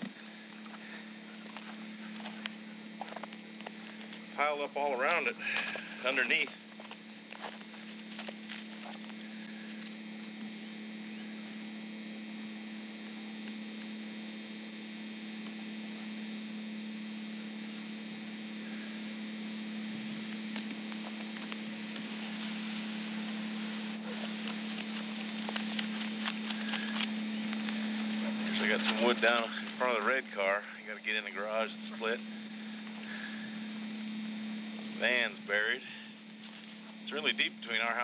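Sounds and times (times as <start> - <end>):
even hiss: 0.0 - 11.6, 16.4 - 38.0
low hum: 0.0 - 38.0.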